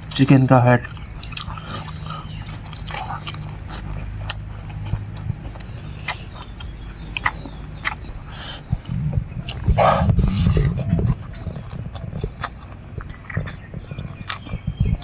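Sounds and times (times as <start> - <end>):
person chewing: 0.8 - 15.0
wet mouth clicks and smacks: 0.8 - 15.0
low rumbling: 0.9 - 15.0.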